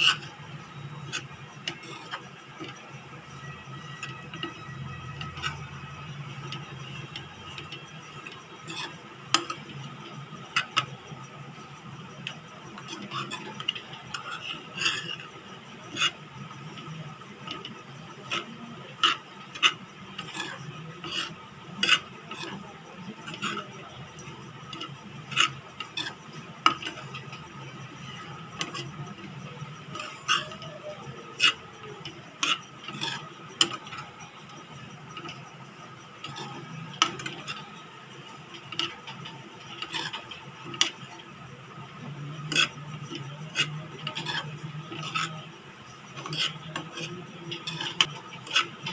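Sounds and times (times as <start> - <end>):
steel spoon scraping a pan: 0.0 - 48.9.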